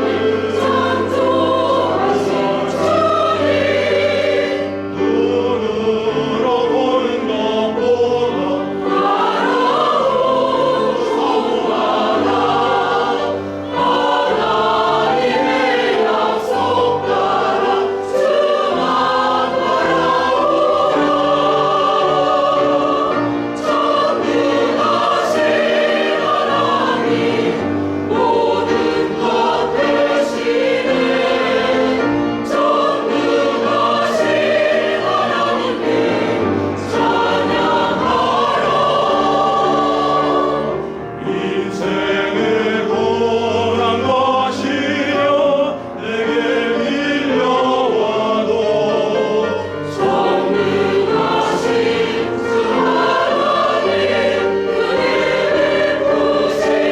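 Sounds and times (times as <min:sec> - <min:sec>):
choir singing: 0:00.0 - 0:56.9.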